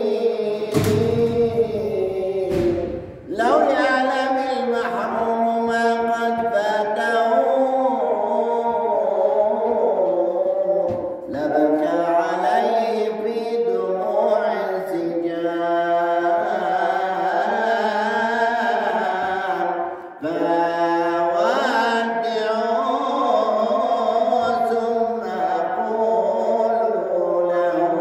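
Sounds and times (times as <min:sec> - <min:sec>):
man singing a hymn into microphone: 0:00.0 - 0:28.0.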